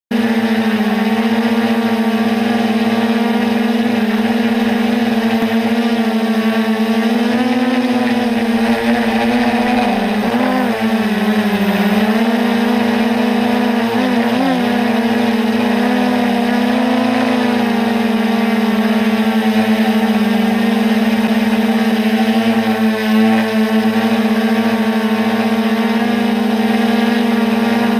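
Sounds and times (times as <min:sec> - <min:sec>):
multicopter propellers buzzing: 0:00.1 - 0:27.9.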